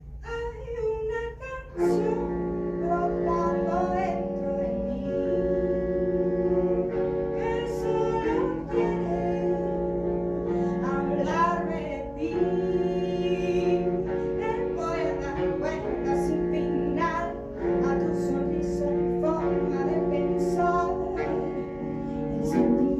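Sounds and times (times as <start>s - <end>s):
saxophone quartet playing chords: 1.3s - 22.9s.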